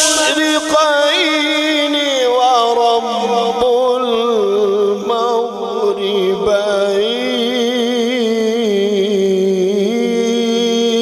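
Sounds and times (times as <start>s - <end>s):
man chanting through a microphone: 0.0s - 11.0s.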